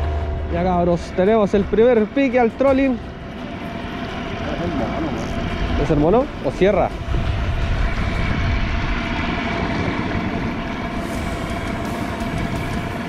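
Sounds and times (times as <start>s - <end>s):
boat engine whine: 0.0s - 13.0s
wind and water rumble: 0.0s - 13.0s.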